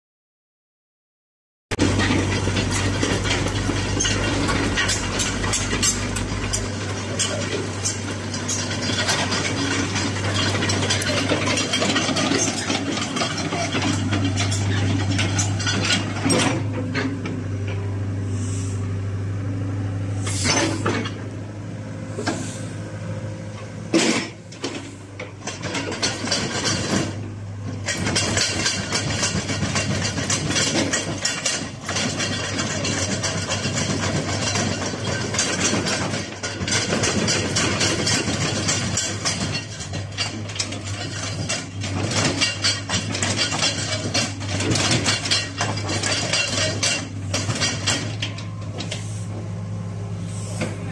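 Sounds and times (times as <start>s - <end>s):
excavator diesel engine running: 1.7s - 50.9s.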